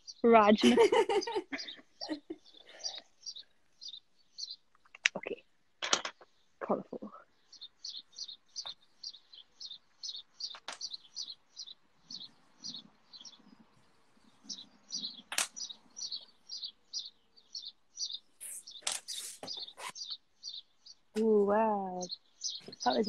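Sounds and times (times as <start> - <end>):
small bird chirping: 0.0 - 23.0.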